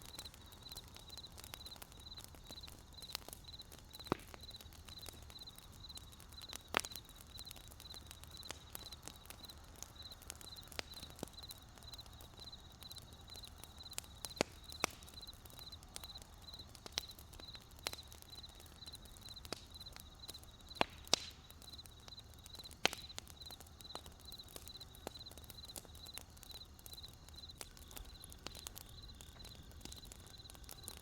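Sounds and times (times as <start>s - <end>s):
cricket chirping: 0.0s - 20.8s, 21.5s - 31.0s
campfire crackling and popping: 0.0s - 31.0s.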